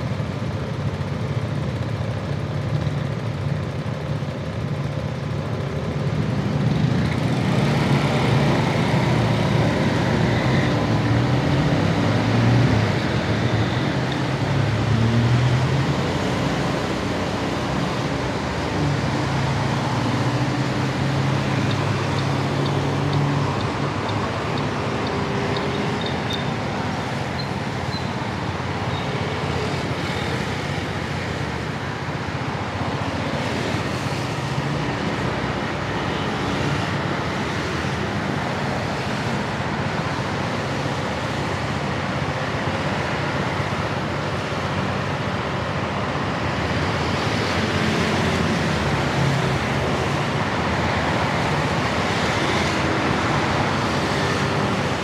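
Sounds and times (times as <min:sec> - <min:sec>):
traffic on wet roads: 0:00.0 - 0:55.0.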